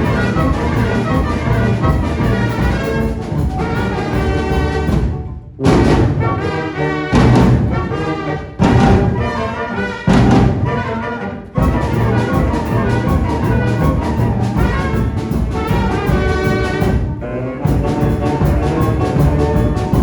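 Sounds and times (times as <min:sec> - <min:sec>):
drums beat: 0:00.0 - 0:06.5, 0:07.2 - 0:08.0, 0:08.6 - 0:10.9, 0:11.6 - 0:20.0
brass band playing: 0:00.0 - 0:20.0.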